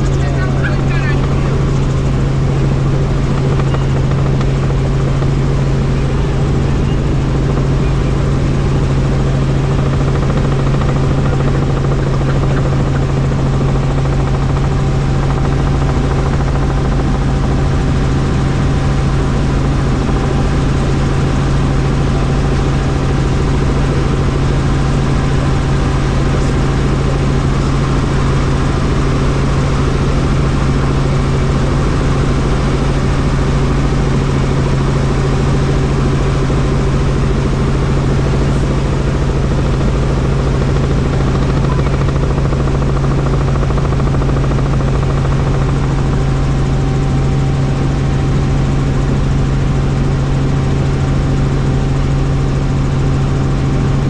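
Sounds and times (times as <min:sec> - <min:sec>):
helicopter rotor and turbine drone: 0:00.0 - 0:54.0.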